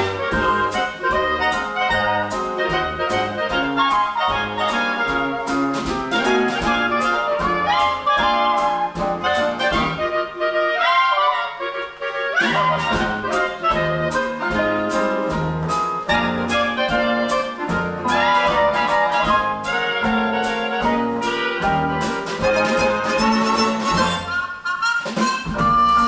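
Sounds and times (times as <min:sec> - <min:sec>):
big band playing swing: 0:00.0 - 0:26.0.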